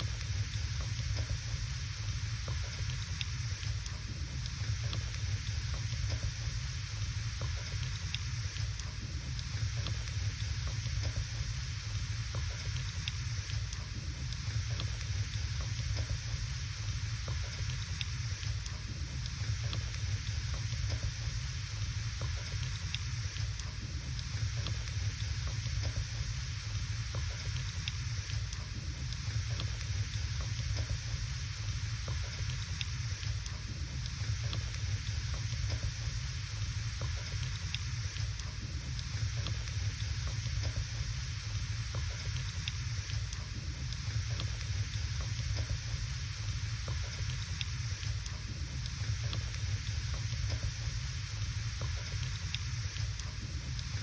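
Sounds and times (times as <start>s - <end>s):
fire crackles and pops: 0.0s - 54.0s
logs burning in a fireplace: 0.0s - 54.0s.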